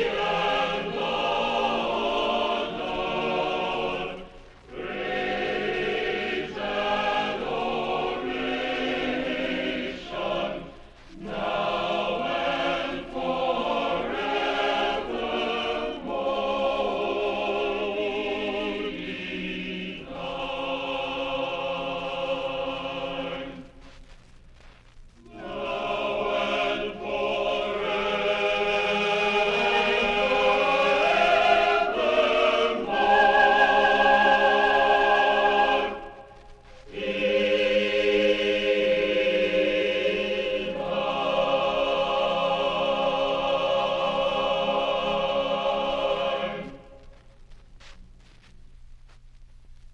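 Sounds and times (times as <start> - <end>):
choir singing held chords: 0.0 - 24.0, 25.2 - 47.2.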